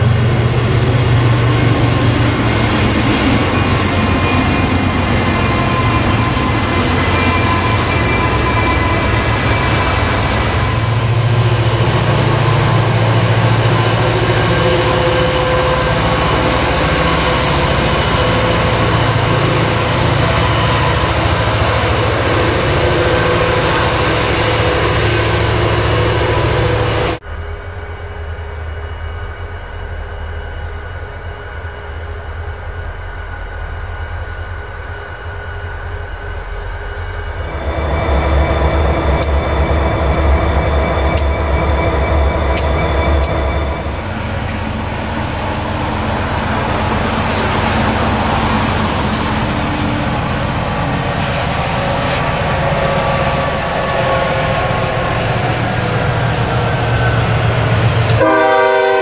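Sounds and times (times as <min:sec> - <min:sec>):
diesel locomotive engine drone: 0:00.0 - 0:59.0
diesel locomotives throbbing: 0:00.0 - 0:59.0
train wheels on rails: 0:00.0 - 0:59.0.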